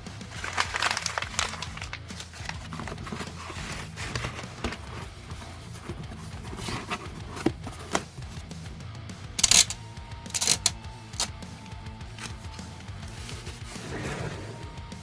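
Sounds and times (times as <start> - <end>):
packing materials rustling and tapping: 0.0 - 8.4, 9.4 - 15.0
soft background music: 0.0 - 15.0.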